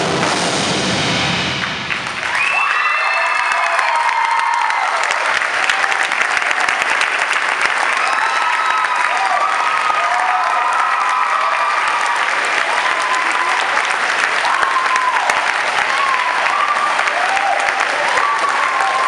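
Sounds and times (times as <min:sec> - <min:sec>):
audience applauding: 0:01.6 - 0:19.0.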